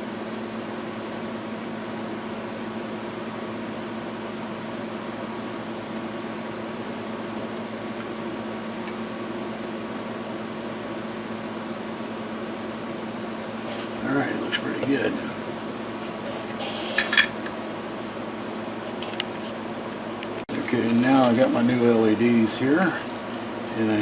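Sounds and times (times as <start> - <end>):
fan-like mechanical hum: 0.0 - 24.0.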